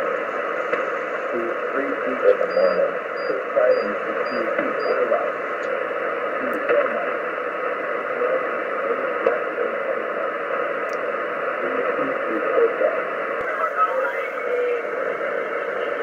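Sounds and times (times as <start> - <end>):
shortwave radio static hiss: 0.0 - 16.0.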